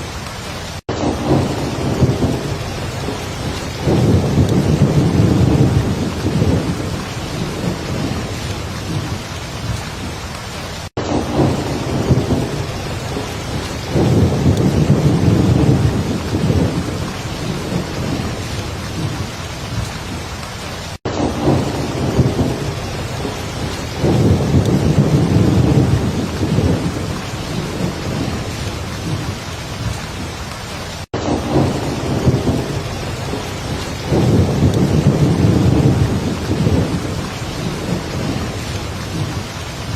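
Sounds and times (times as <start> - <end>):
heavy rain falling: 0.0 - 39.9
thunder rolling: 0.9 - 9.9, 11.0 - 19.9, 21.1 - 30.5, 31.1 - 39.9.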